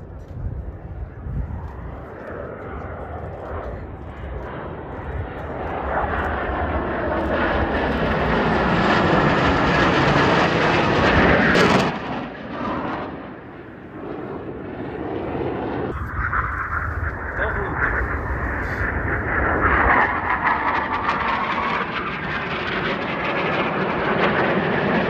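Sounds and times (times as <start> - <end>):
jet aircraft roaring past: 0.0 - 25.0.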